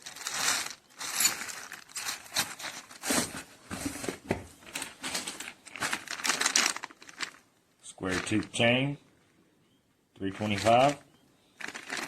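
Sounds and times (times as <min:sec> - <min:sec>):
plastic packaging crinkling: 0:00.0 - 0:08.7, 0:10.3 - 0:11.0, 0:11.6 - 0:12.0.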